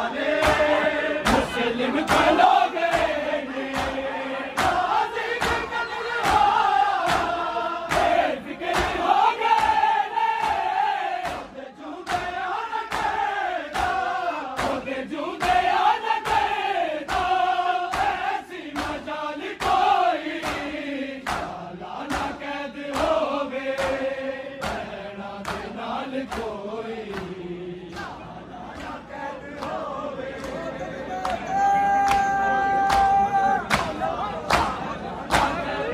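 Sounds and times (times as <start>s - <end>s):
rhythmic chest beating: 0.0s - 30.8s
men chanting in unison: 0.0s - 35.9s.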